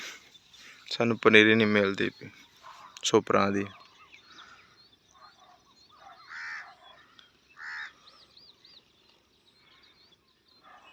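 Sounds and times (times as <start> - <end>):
faint bird chirping: 0.0 - 10.9
loud bird calls: 0.0 - 10.9.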